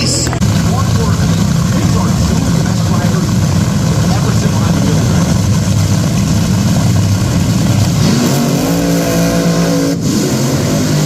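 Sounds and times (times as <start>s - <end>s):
drag racing car engine: 0.0s - 11.0s.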